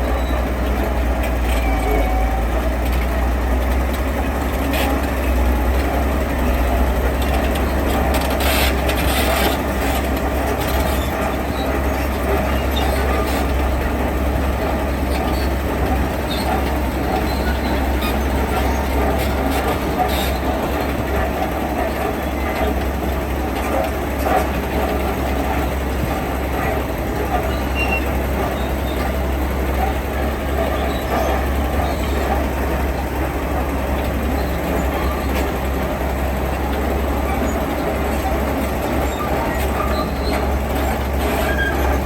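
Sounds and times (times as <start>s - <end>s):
diesel construction machinery rumbling: 0.0s - 42.0s.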